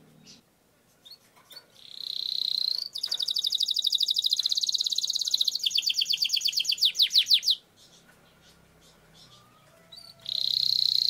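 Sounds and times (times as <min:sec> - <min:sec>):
canary singing: 0:00.1 - 0:11.0.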